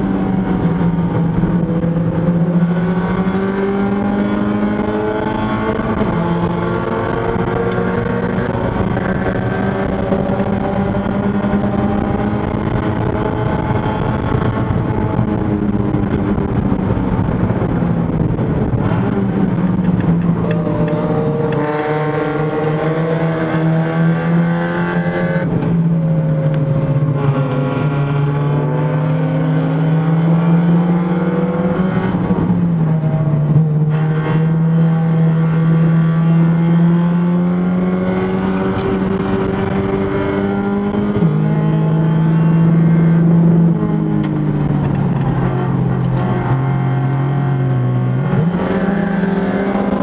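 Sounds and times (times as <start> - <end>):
race car engine revving: 0.0 - 50.0.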